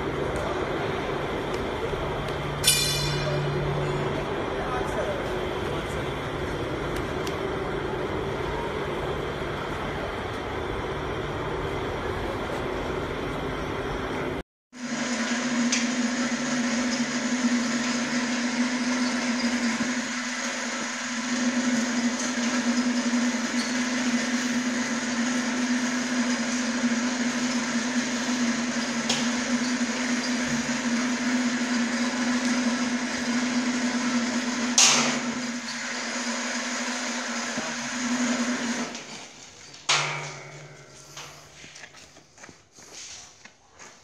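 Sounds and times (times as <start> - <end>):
chain hoist motor whining hum: 0.0 - 14.1, 14.8 - 41.9.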